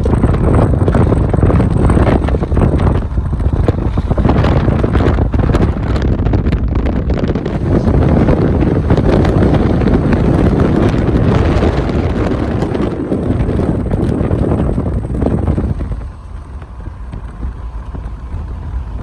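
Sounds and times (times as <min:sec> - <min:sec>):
rainstorm: 0:00.0 - 0:06.2, 0:07.2 - 0:19.0
wind gusting over microphone: 0:00.0 - 0:19.0.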